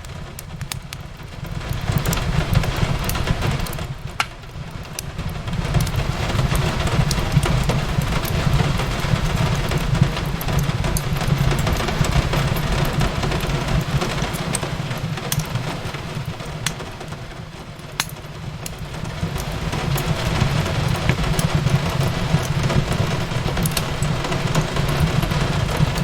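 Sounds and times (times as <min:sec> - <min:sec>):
rain on a window: 0:00.0 - 0:26.0
wood fire crackling: 0:00.0 - 0:26.0.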